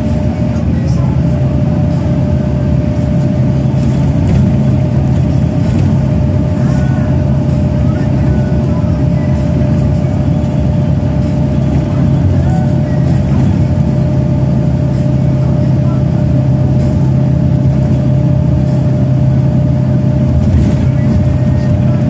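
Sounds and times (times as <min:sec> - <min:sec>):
bus engine drone: 0:00.0 - 0:22.0
thin whine: 0:00.0 - 0:22.0.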